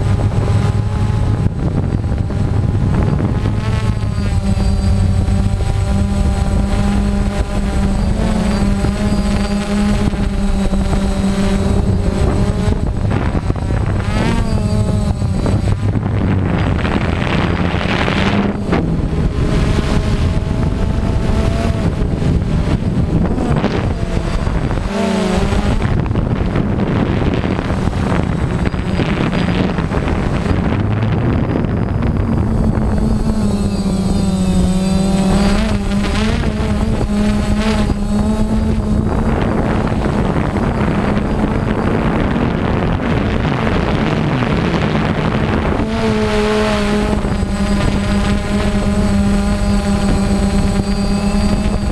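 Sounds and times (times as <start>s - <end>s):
drone propellers humming: 0.0s - 51.9s.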